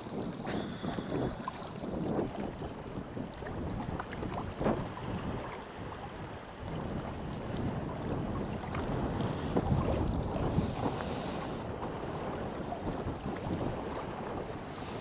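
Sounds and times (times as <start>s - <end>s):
waves splashing on rocks: 0.0s - 15.0s
wind buffeting microphone: 0.0s - 15.0s.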